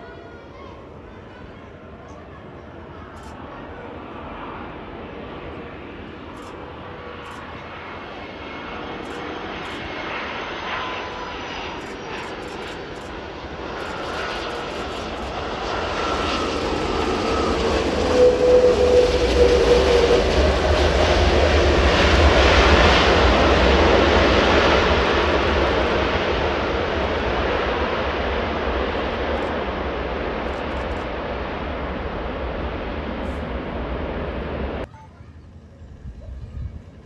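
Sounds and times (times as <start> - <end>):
jet airliner taking off: 0.0 - 37.0
jet engine whine: 0.0 - 37.0.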